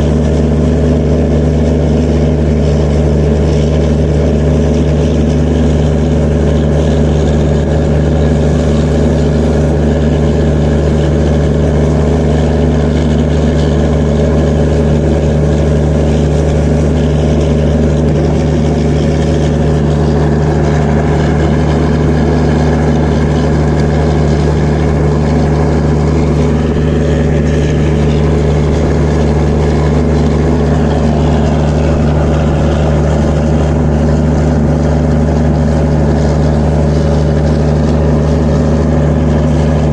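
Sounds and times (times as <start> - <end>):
diesel generator engine drone: 0.0 - 39.9.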